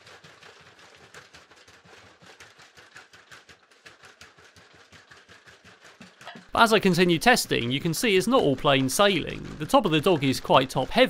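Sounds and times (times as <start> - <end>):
robot feet clicking and tapping: 0.0 - 11.0.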